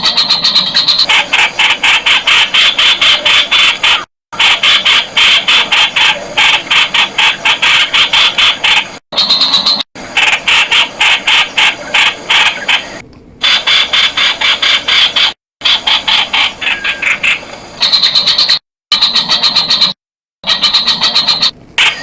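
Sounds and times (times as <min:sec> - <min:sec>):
bird calling in sharp notes: 0:00.0 - 0:04.0, 0:05.2 - 0:09.8, 0:10.6 - 0:21.6.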